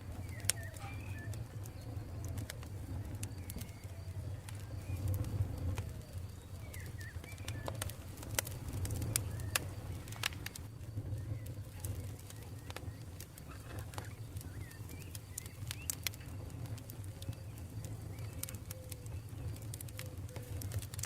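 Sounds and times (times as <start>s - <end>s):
faint bird chirps: 0.0s - 8.3s, 8.9s - 20.9s
campfire crackling: 0.0s - 21.0s.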